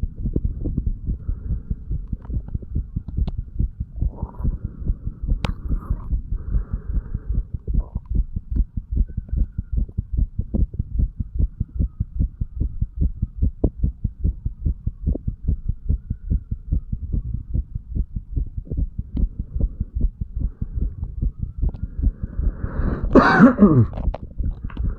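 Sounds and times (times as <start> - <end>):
faint hum: 0.0 - 24.9
heartbeat thumps: 0.0 - 24.9.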